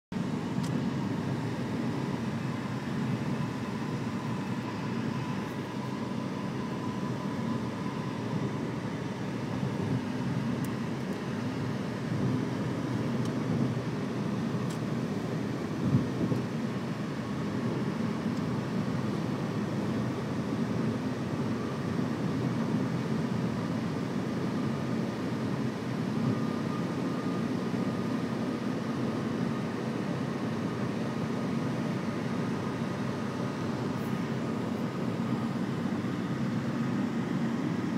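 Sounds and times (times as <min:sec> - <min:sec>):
car road and engine noise: 0:00.1 - 0:37.9.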